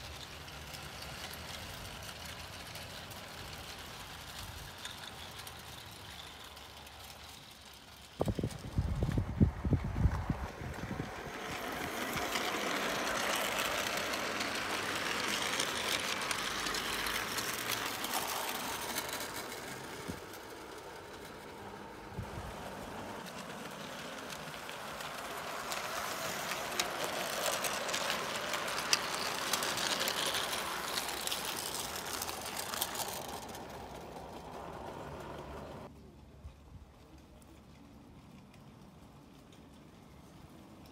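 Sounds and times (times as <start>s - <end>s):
model train wheels rattling: 0.0s - 35.9s.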